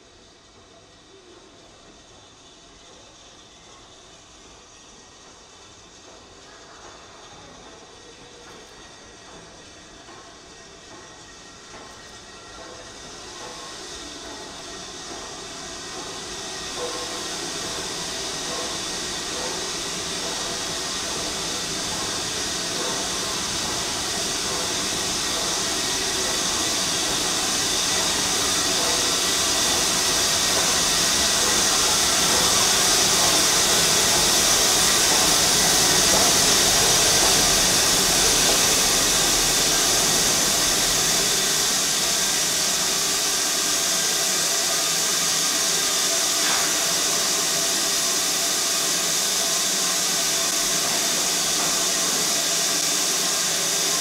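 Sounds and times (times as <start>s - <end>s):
steam locomotive hissing: 0.0s - 54.0s
train low rumble: 0.0s - 54.0s.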